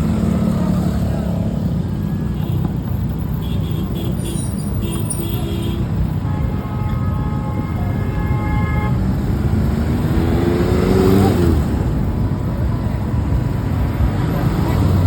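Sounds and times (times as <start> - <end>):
passing traffic: 0.0 - 15.0.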